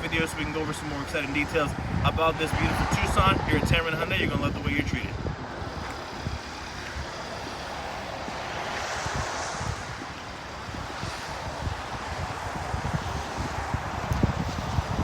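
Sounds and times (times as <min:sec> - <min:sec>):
steady rushing noise: 0:00.0 - 0:15.0
wind buffeting microphone: 0:00.0 - 0:15.0.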